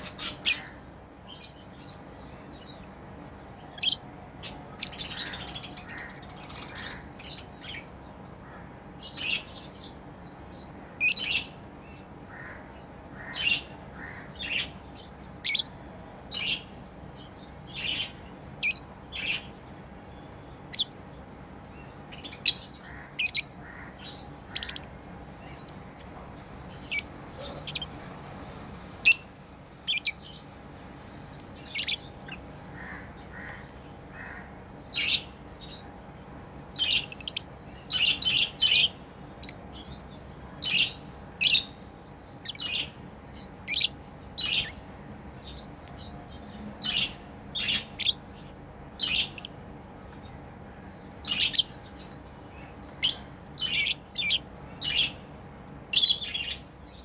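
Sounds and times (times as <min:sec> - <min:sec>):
lovebirds chirping: 0:00.0 - 0:57.0.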